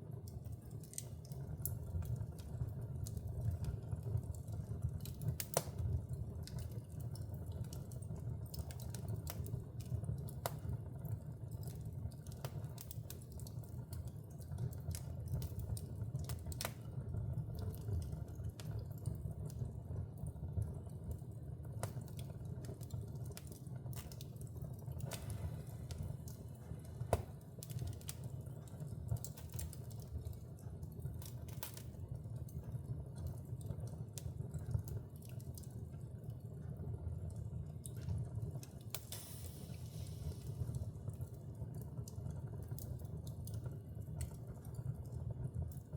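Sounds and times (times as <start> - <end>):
fire crackles and pops: 0.0 - 45.9
fire rumbling in a fireplace: 0.0 - 45.9.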